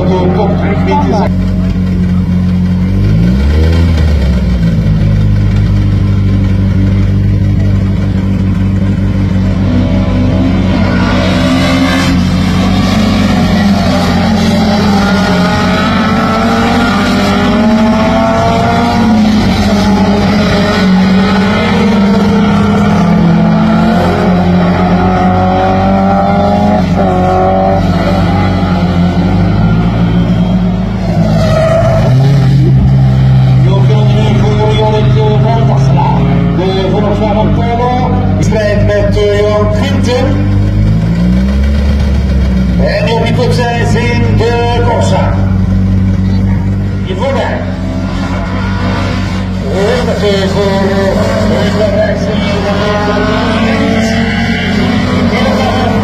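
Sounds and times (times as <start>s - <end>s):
race car engines accelerating: 0.0s - 56.0s.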